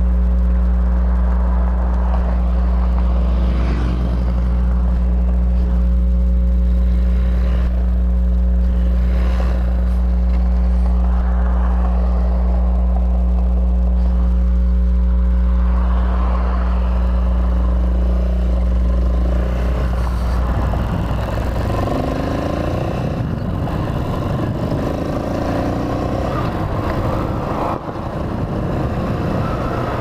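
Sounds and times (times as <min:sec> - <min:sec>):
motorcycle engine running: 0:00.0 - 0:30.0
wind and road noise: 0:00.0 - 0:30.0.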